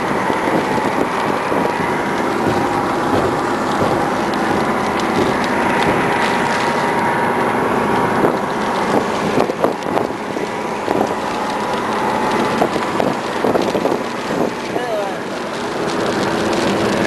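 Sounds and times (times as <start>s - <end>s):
steady rain: 0.0s - 17.0s
wind buffeting microphone: 0.0s - 17.0s.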